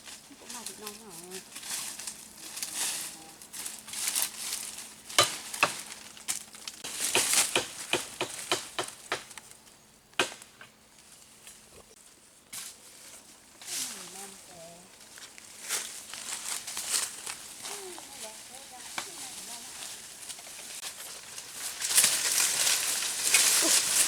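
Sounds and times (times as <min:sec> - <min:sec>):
rustling and crinkling: 0:00.0 - 0:09.7, 0:10.9 - 0:24.0.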